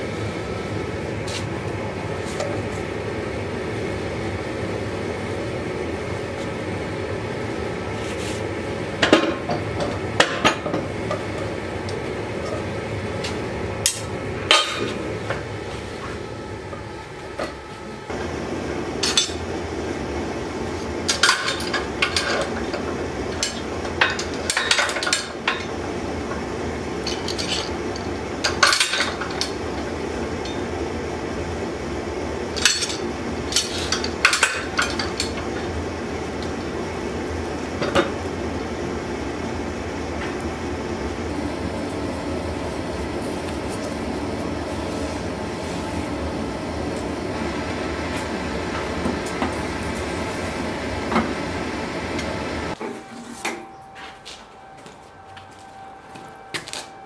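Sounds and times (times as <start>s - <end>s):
forge burner rushing: 0.0s - 57.0s.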